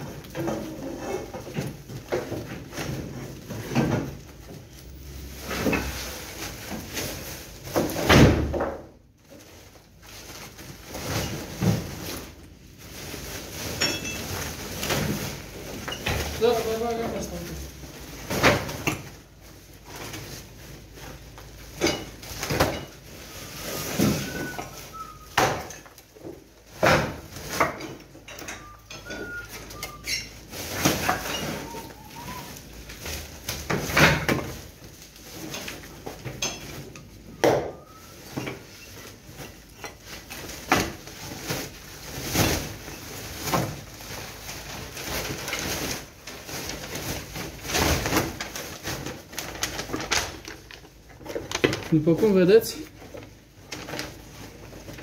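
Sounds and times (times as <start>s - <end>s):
plastic sacks rustling: 0.0s - 55.0s.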